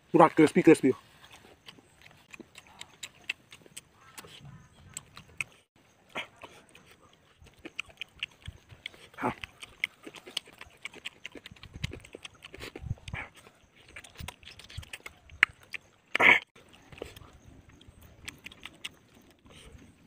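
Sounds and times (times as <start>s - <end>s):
person chewing crispy chicken: 1.1s - 20.0s.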